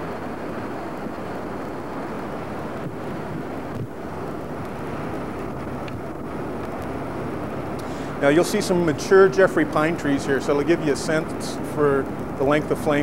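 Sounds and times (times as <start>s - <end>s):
wildfire roaring: 0.0s - 13.0s.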